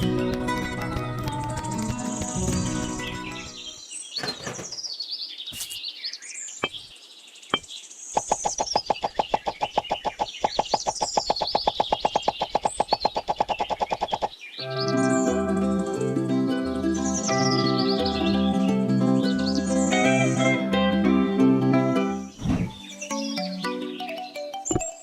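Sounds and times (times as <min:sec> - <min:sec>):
birds chirping: 0:01.4 - 0:25.0.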